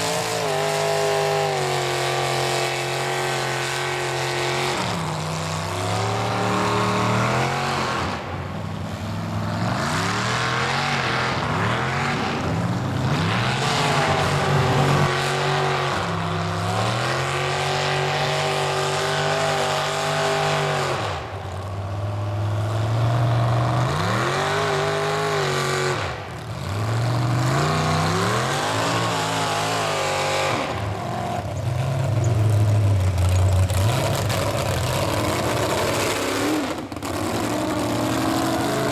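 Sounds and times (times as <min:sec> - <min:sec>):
truck engine revving hard: 0:00.0 - 0:38.9.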